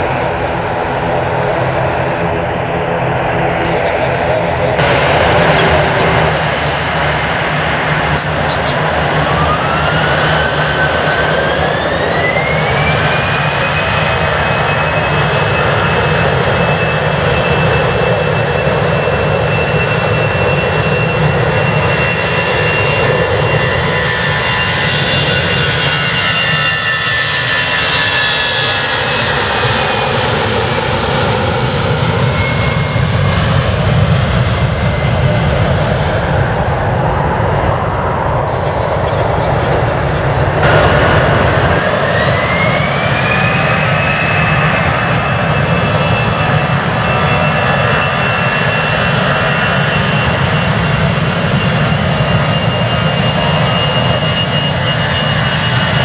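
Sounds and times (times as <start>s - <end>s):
heavy jet rumble: 0.0s - 56.0s
jet engine whine: 0.0s - 56.0s.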